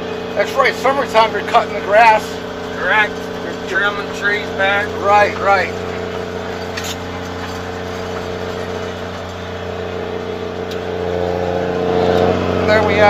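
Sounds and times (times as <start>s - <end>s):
snow groomer engine running: 0.0s - 13.0s.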